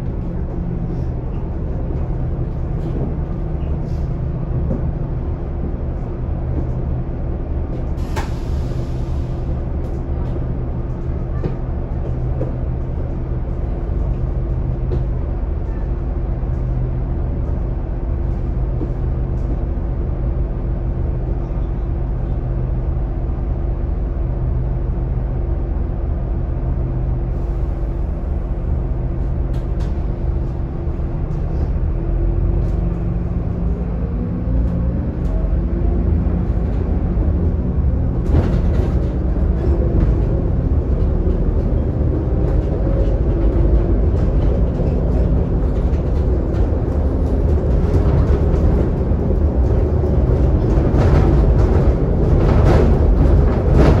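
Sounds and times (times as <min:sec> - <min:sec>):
bus diesel engine idling and revving: 0:00.0 - 0:54.0.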